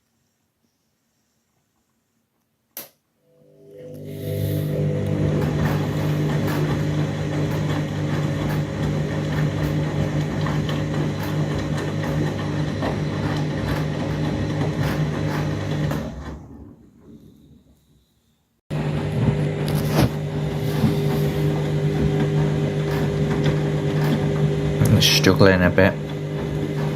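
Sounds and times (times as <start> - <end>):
washing machine running: 3.2 - 17.8, 18.7 - 26.9.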